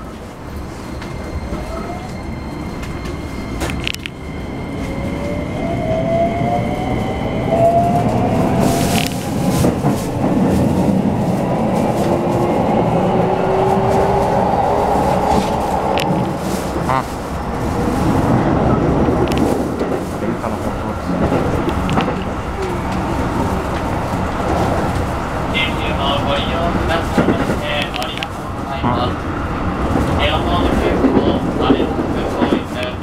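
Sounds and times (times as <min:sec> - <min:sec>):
wheels rumbling on rail: 0:00.0 - 0:33.0.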